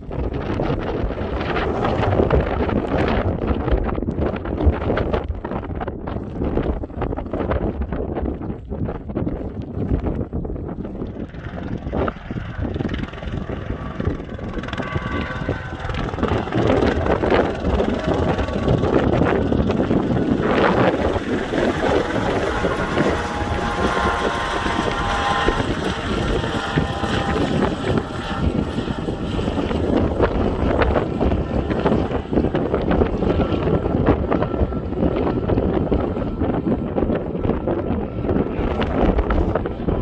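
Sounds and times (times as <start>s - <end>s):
helicopter flying overhead: 0.0s - 40.0s.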